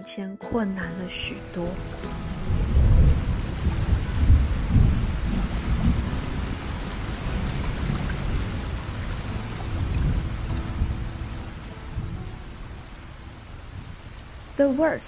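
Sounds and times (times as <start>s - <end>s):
rain falling: 0.7s - 15.0s
rolling thunder: 1.8s - 14.6s.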